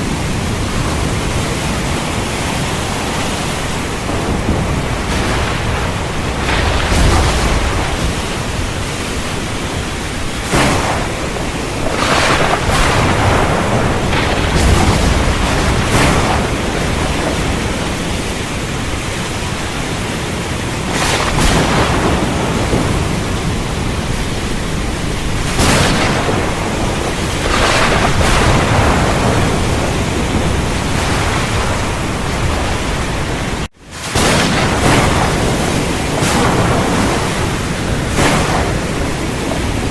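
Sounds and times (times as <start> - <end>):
heavy rain: 0.0 - 39.9
thunder cracks: 0.0 - 39.9.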